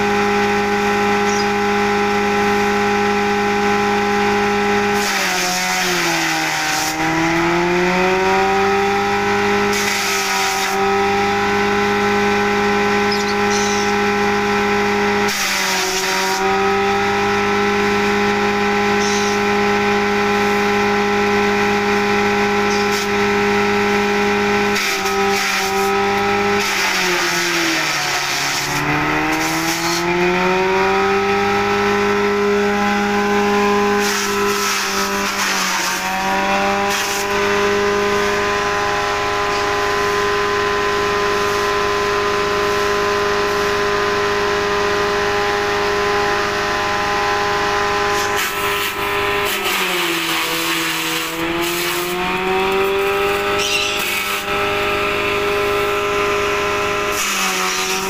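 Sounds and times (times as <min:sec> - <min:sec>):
blades chopping grass: 0:00.0 - 0:58.0
electric motor humming: 0:00.0 - 0:58.0.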